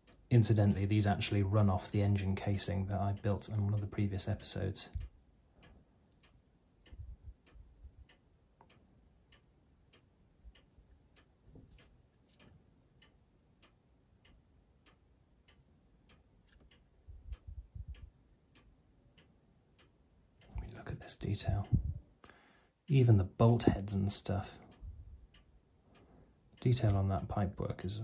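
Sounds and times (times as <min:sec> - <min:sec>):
faint regular ticking: 0:00.0 - 0:28.0.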